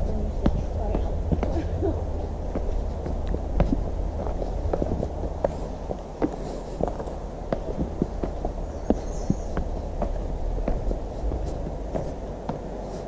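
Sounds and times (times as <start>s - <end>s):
footsteps on trail: 0.0s - 13.0s
low steady rumble: 0.0s - 13.0s.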